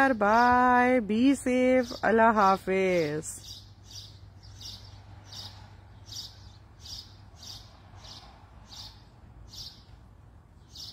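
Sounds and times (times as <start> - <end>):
bird chirping: 1.2 - 10.9.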